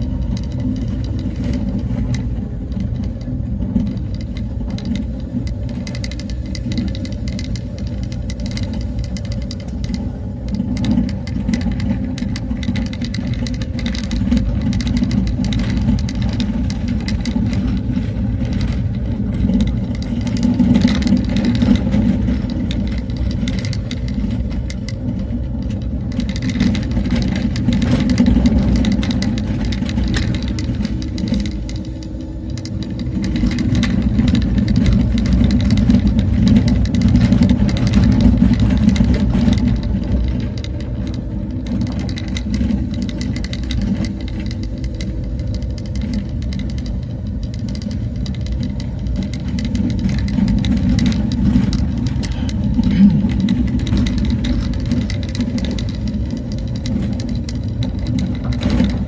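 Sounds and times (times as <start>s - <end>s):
small knocks and rattles: 0.0s - 59.0s
vehicle engine running: 0.0s - 59.0s.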